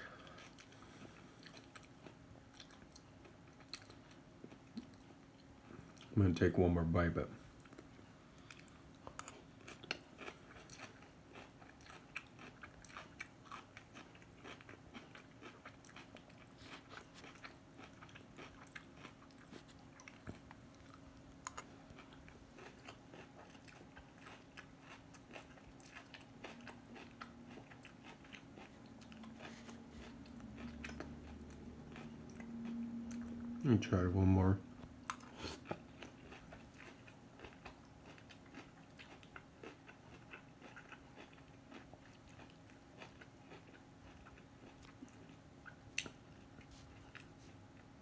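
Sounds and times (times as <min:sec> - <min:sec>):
chewing crunchy food: 0:00.0 - 0:06.5, 0:07.5 - 0:48.0
faint steady hum: 0:00.0 - 0:48.0.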